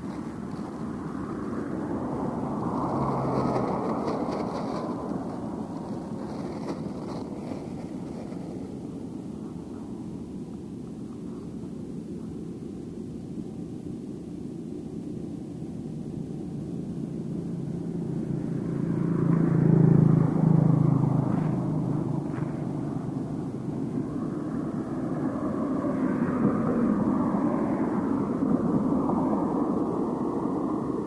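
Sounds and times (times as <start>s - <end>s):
passing vehicle engine: 0.0s - 31.0s.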